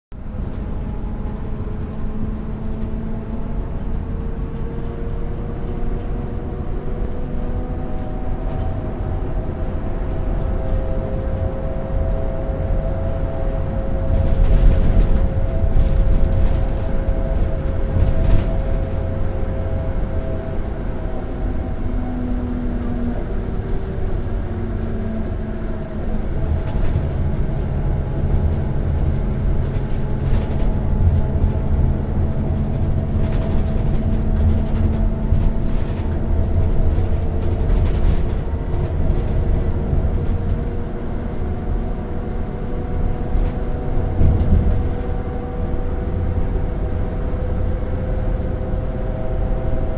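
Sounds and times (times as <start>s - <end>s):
bus engine rumbling: 0.1s - 49.9s.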